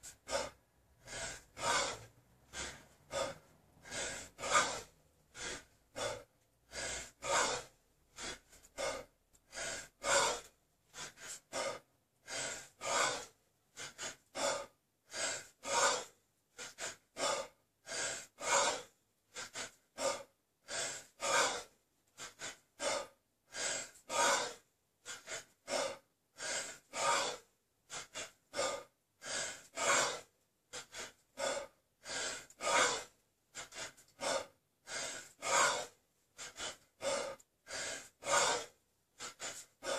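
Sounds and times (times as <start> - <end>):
man breathing hard: 0.0 - 39.9.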